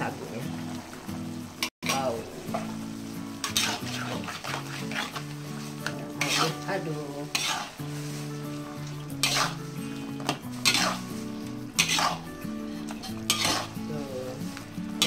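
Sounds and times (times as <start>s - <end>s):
food sizzling: 0.0s - 15.0s
spatula scraping a metal wok: 1.6s - 15.0s.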